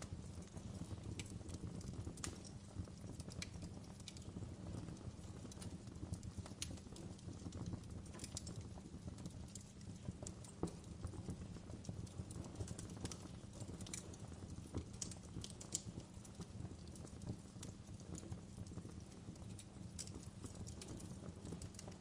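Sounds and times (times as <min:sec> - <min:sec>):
fire pops and snaps: 0:00.0 - 0:22.0
low rumble of burning: 0:00.0 - 0:22.0.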